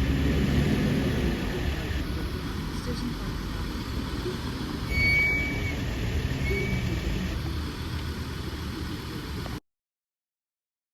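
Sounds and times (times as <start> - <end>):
vehicle engine rumble: 0.0 - 9.6.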